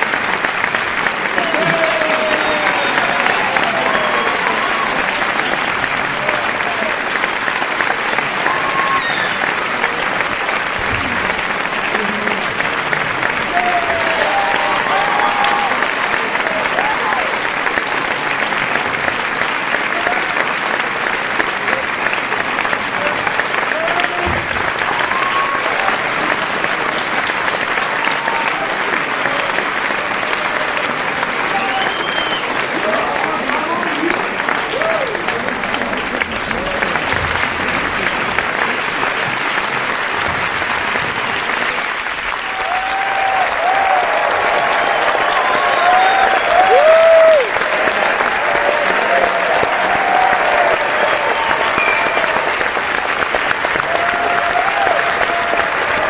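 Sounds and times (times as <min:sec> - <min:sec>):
audience clapping: 0:00.0 - 0:56.0
large crowd applauding: 0:00.0 - 0:56.0.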